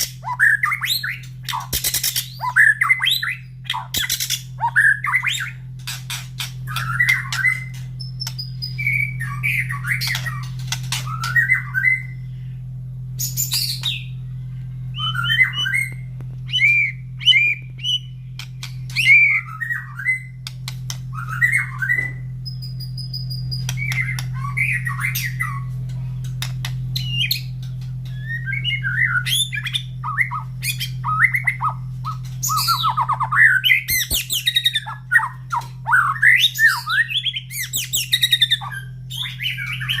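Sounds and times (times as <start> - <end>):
bird singing: 0.0 - 40.0
steady low hum: 0.0 - 40.0.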